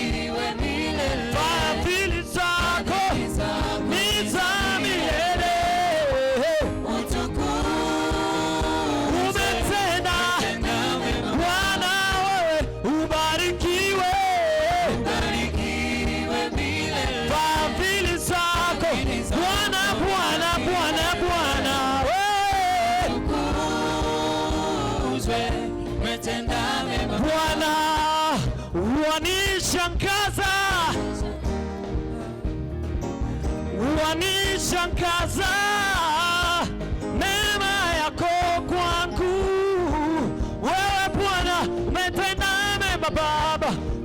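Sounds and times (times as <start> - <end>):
band accompaniment: 0.0 - 44.0
held instrumental chords: 0.0 - 44.0.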